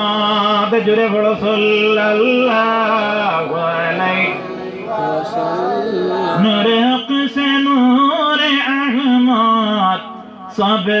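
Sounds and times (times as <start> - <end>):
man singing through microphone: 0.0 - 11.0.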